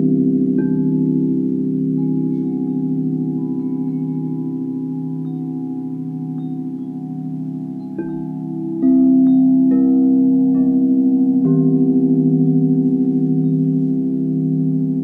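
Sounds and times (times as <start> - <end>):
crystal singing bowls ringing: 0.0 - 15.0.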